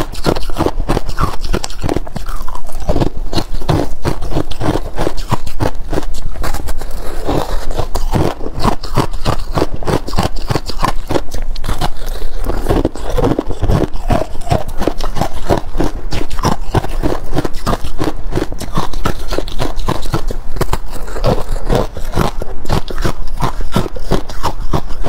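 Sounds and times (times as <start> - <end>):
chewing crunchy ice: 0.0 - 25.0.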